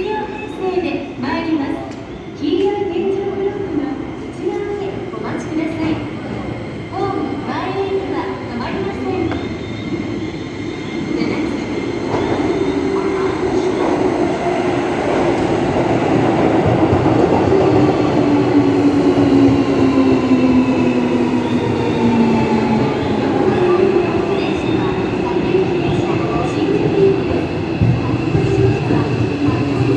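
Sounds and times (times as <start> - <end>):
train wheel and rail rumble: 0.0 - 29.9.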